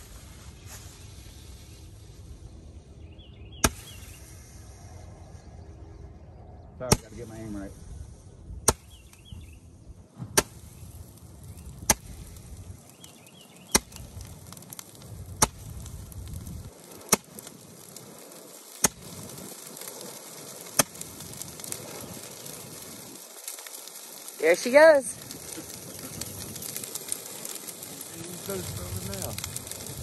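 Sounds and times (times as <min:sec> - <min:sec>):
roman candle firework popping: 0:00.0 - 0:02.7, 0:03.4 - 0:05.0, 0:06.8 - 0:30.0.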